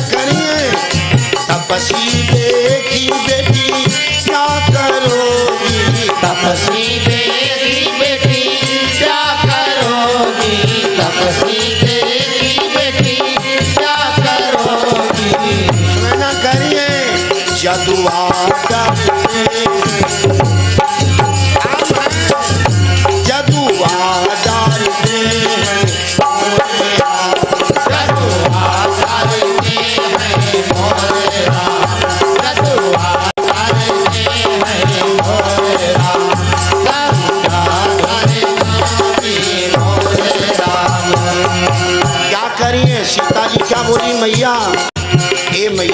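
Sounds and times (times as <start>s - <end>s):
drums and percussion: 0.0s - 45.9s
man singing devotional song: 0.0s - 45.9s.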